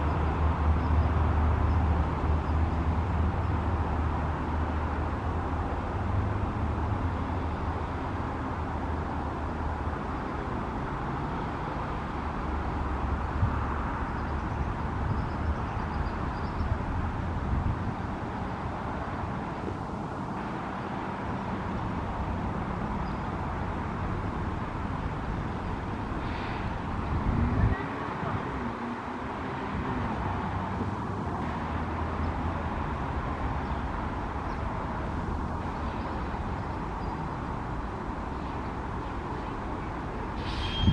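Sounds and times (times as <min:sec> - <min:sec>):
distant road traffic hum: 0:00.0 - 0:40.9.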